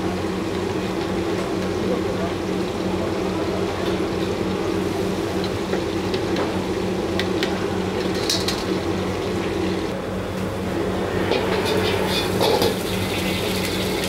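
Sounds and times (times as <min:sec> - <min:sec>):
food deep-frying in bubbling oil: 0:00.0 - 0:10.0, 0:12.1 - 0:14.0
gas burner roaring: 0:00.0 - 0:14.0.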